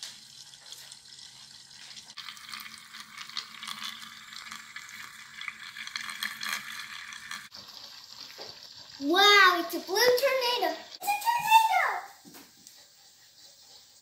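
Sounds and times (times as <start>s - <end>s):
water swirling with fizzing hiss: 0.0s - 14.0s.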